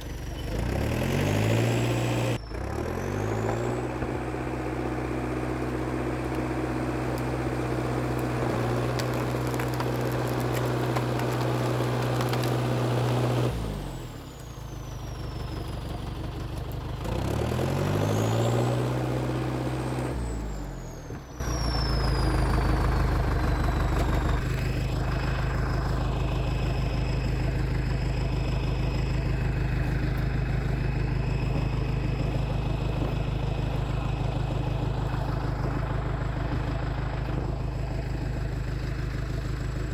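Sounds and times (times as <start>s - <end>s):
low engine rumble: 0.0s - 17.2s, 20.4s - 39.9s
bulldozer diesel engine revving: 0.0s - 39.9s.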